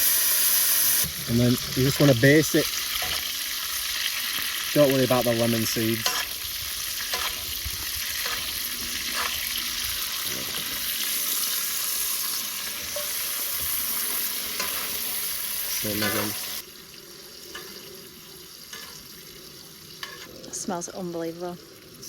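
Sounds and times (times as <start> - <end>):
steak sizzling in a pan: 0.0 - 22.0.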